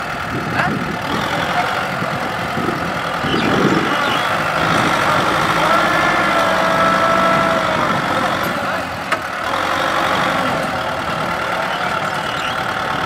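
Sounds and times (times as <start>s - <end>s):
diesel engines under load: 0.0s - 13.0s.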